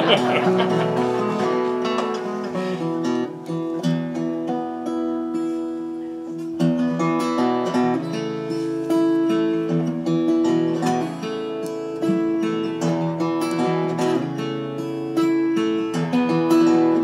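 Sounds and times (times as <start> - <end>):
acoustic guitars strumming chords: 0.0 - 17.0.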